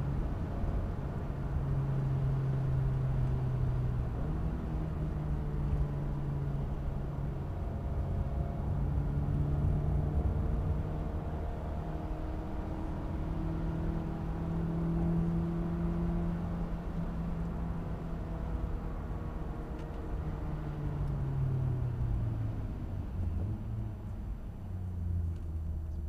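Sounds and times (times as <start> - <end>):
car engine from inside cabin: 0.0 - 26.0
low road rumble: 0.0 - 26.0.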